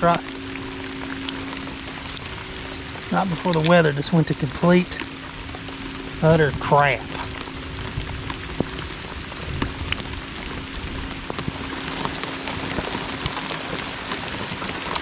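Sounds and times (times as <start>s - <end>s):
heavy rain hissing: 0.0s - 15.0s
raindrops ticking close: 0.0s - 15.0s.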